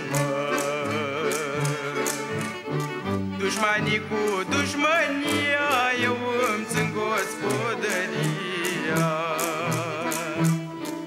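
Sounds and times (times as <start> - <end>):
folk music melody: 0.0 - 11.0.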